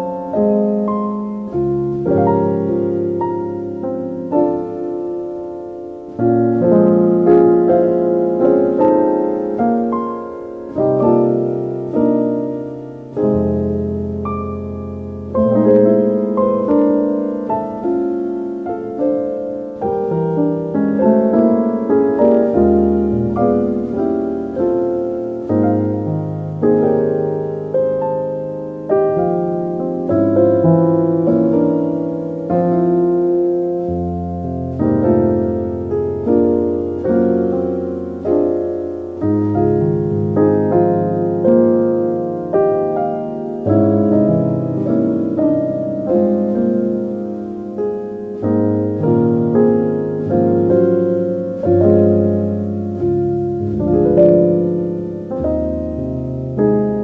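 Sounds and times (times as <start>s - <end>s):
slow calm piano music: 0.0s - 57.0s.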